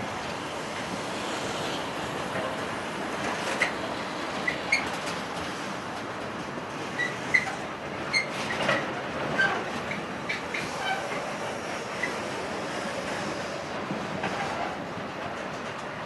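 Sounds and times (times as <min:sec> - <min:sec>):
freight train rolling past: 0:00.0 - 0:16.0
train clicks: 0:00.3 - 0:16.0.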